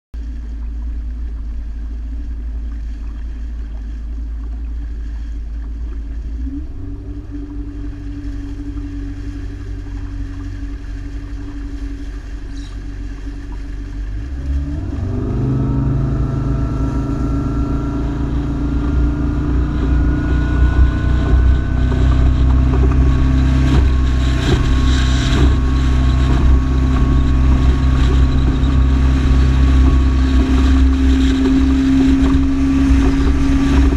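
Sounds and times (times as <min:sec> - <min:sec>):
motorboat engine running: 0:00.2 - 0:33.9
water rushing: 0:00.2 - 0:33.9.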